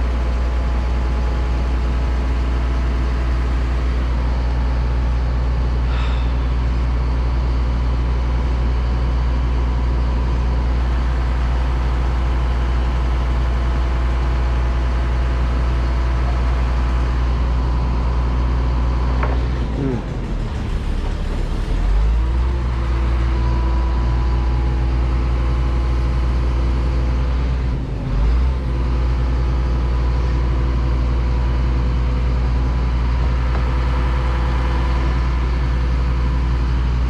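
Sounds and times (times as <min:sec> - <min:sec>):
large engine idling: 0:00.0 - 0:37.0.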